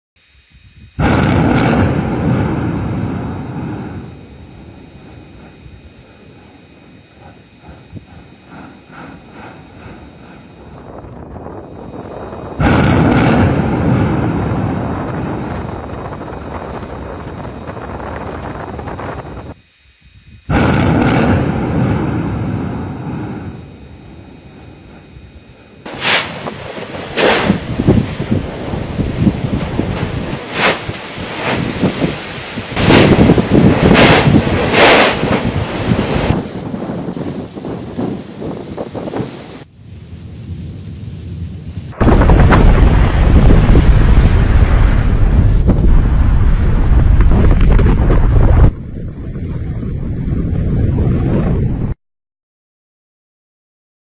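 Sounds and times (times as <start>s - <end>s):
thunder claps rolling: 1.0s - 19.6s, 20.5s - 52.0s.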